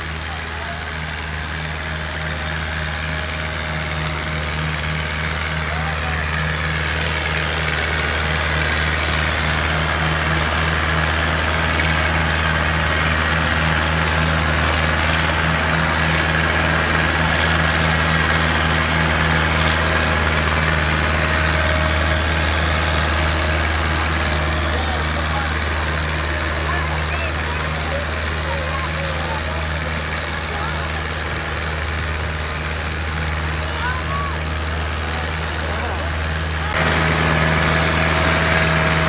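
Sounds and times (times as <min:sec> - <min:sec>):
tractor diesel engine droning: 0:00.0 - 0:39.0.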